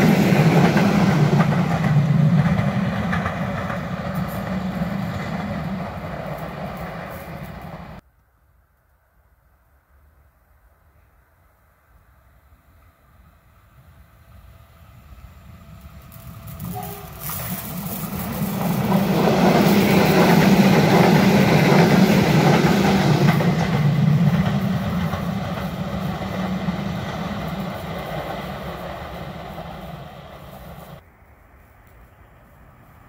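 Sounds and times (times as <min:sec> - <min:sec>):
train rumbling past on rails: 0:00.0 - 0:08.0, 0:12.1 - 0:33.0.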